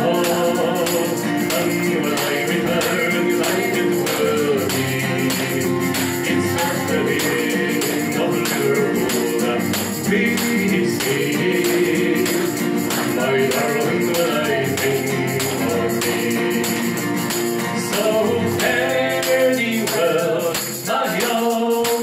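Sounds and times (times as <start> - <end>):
shaken hand percussion: 0.0 - 22.0
strummed acoustic guitar: 0.0 - 22.0.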